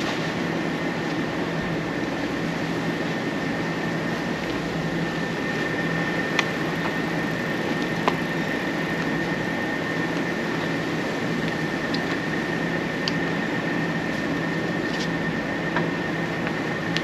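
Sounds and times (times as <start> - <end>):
high-pitched whine: 0.0 - 17.0
machine hum and hiss: 0.0 - 17.0.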